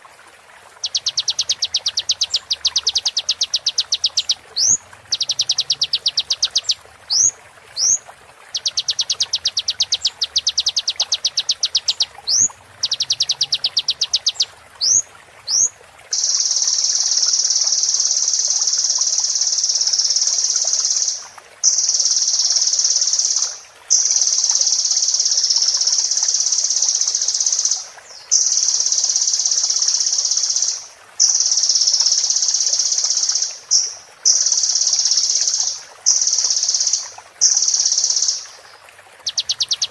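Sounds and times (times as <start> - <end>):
sunbird song: 0.8 - 39.9.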